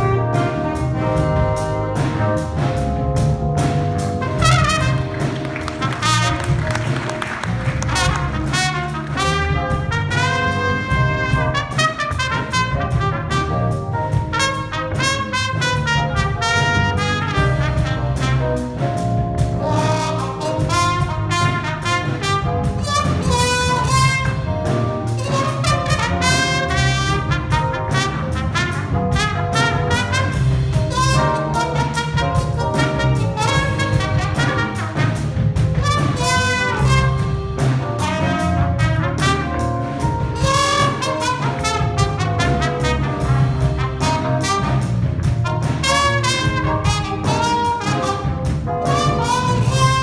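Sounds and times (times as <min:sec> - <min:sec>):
trumpet playing fast lead lines: 0:00.0 - 0:02.7, 0:03.6 - 0:50.0
jazz keyboard bass and drums: 0:00.0 - 0:50.0.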